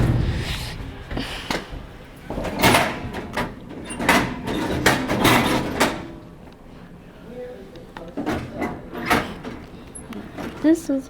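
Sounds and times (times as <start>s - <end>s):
vending machine rattling and banging: 0.0s - 6.2s, 8.2s - 11.0s.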